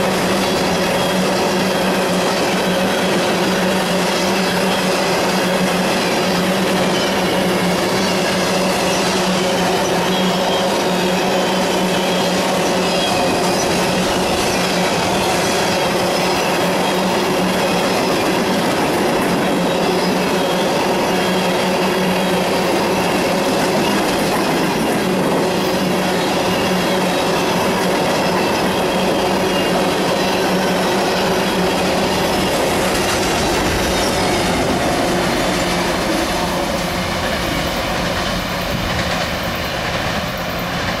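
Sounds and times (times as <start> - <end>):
high wheel squeal: 0.0 - 41.0
train wheels rushing on rails: 0.0 - 41.0.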